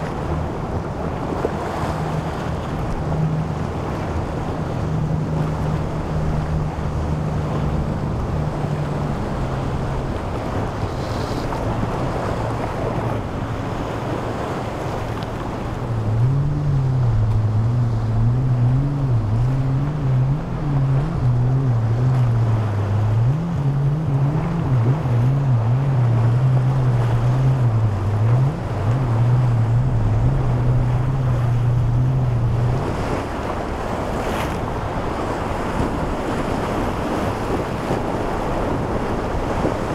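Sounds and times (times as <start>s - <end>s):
powerboat engine drone: 0.0s - 39.9s
surf: 0.0s - 39.9s
wind on microphone: 0.0s - 39.9s.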